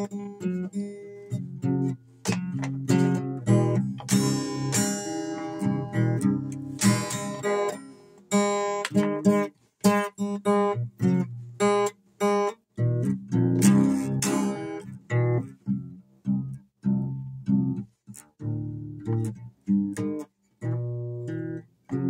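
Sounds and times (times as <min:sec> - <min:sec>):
acoustic guitar choppy strumming: 0:00.0 - 0:18.3.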